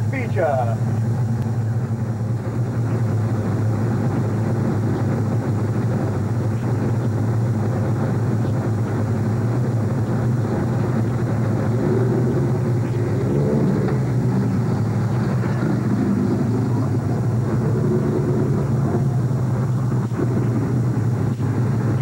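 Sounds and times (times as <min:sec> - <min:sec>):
higher engine note: 0:00.0 - 0:22.0
truck engine idling: 0:00.0 - 0:22.0.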